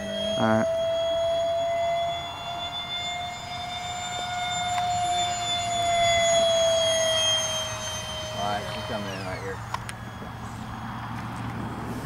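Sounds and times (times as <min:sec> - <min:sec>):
model jet fan whining: 0:00.0 - 0:12.0.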